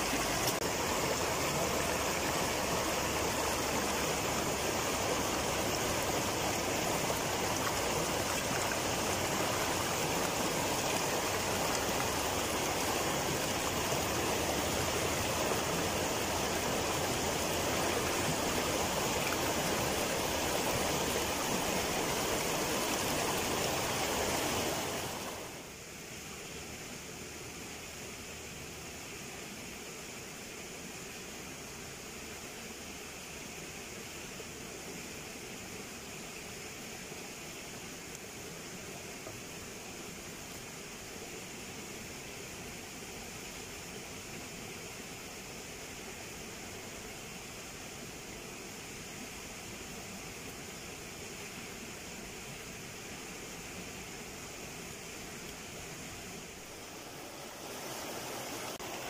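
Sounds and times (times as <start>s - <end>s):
river rushing over stones: 0.0s - 59.0s.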